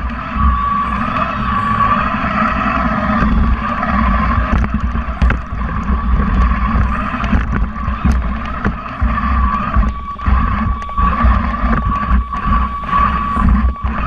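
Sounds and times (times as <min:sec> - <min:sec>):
robot electric motors whining: 0:00.0 - 0:14.0.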